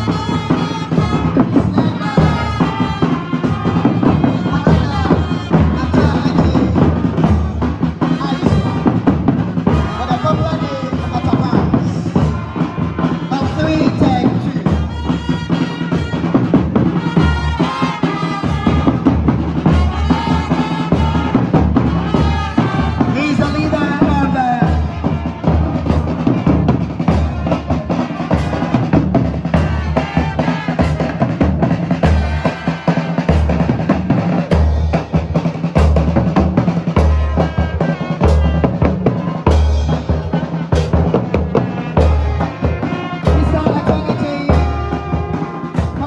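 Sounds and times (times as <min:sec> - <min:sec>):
bass drum beat: 0:00.0 - 0:46.0.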